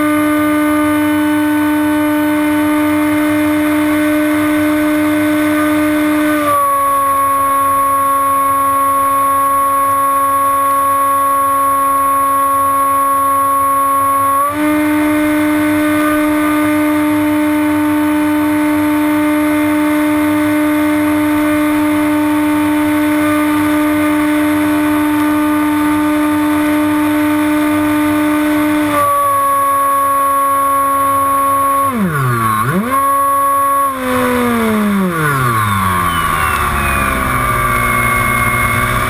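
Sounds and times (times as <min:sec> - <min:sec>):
electric motor and propeller whining: 0:00.0 - 0:39.0.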